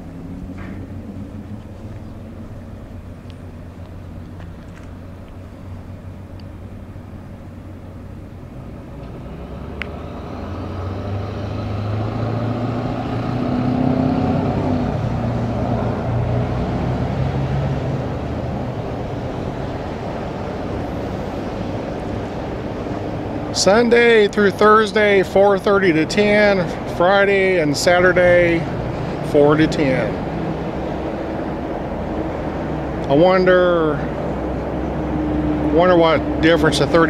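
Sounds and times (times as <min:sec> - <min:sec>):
street traffic: 0:00.0 - 0:37.0
vehicle engine running: 0:00.0 - 0:37.0.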